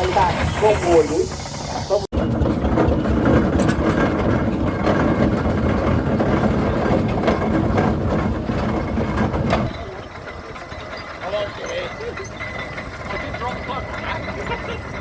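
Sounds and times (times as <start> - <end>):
steam traction engine running: 0.0 - 15.0.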